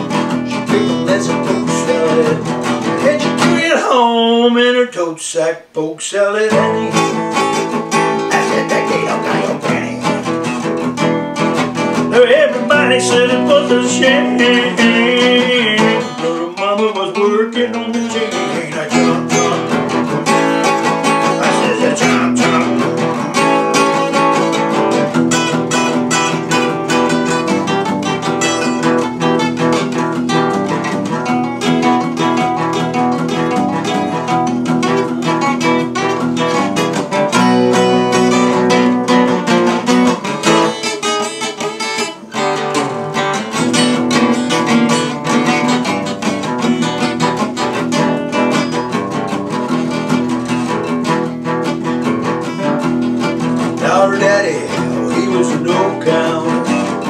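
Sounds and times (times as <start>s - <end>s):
acoustic guitars playing: 0.0s - 5.1s, 6.2s - 57.0s.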